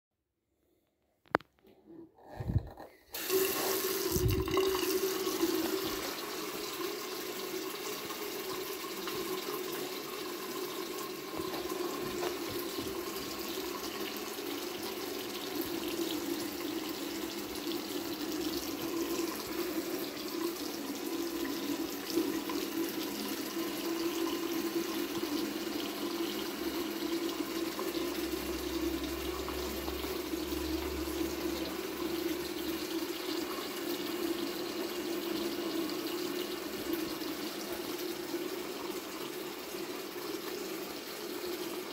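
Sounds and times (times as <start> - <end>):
water running into basin: 2.5 - 41.9.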